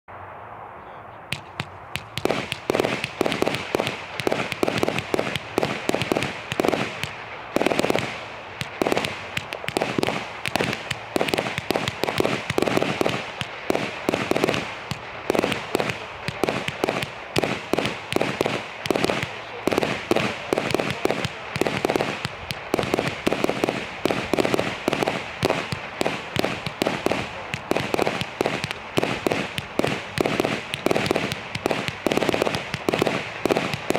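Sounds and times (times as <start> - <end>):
firework bangs and crackling: 1.3 - 33.9.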